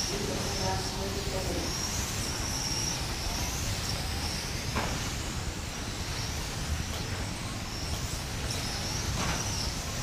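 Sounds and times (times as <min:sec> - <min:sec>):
rc car motors whining: 0:00.0 - 0:10.0
steady hiss: 0:00.0 - 0:10.0.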